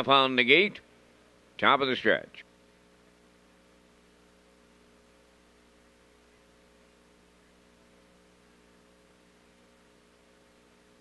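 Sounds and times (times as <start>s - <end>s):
faint electrical hum: 0.0s - 11.0s
low hiss: 0.0s - 11.0s.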